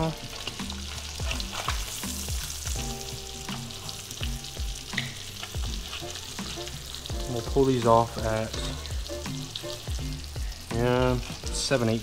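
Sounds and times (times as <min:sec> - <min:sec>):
fish sizzling in butter: 0:00.0 - 0:12.0.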